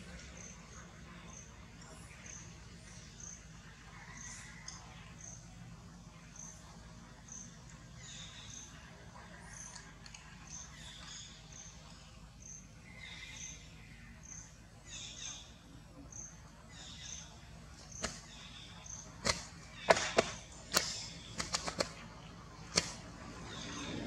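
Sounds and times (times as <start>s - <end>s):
outdoor ambience: 0.0s - 24.0s.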